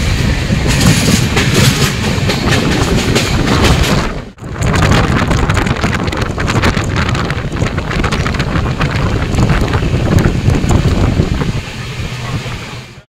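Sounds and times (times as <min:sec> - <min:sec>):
wind buffeting microphone: 0:00.0 - 0:12.9
train coach rumble and clatter: 0:00.0 - 0:13.0.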